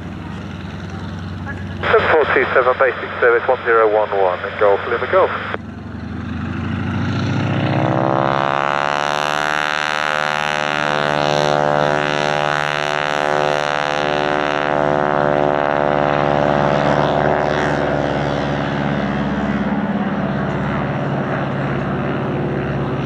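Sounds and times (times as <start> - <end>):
propeller aircraft engine: 0.0 - 23.0.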